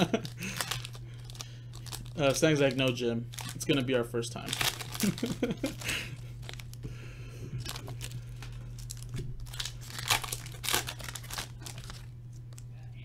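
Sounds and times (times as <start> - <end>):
card pack wrappers crinkling: 0.0 - 12.7
low electrical hum: 0.0 - 13.0.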